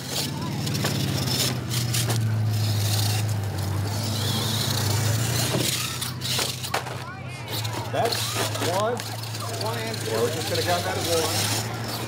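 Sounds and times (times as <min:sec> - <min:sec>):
rc truck tires on gravel: 0:00.0 - 0:12.0.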